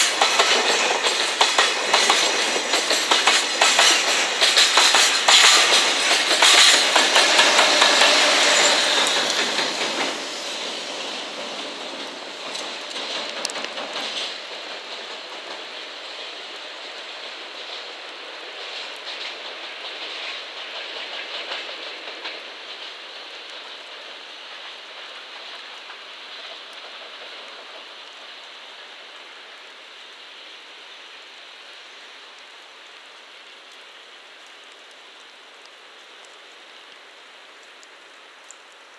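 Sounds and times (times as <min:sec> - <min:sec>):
rain hiss: 0:00.0 - 0:38.9
train wheels on rails: 0:00.0 - 0:38.9.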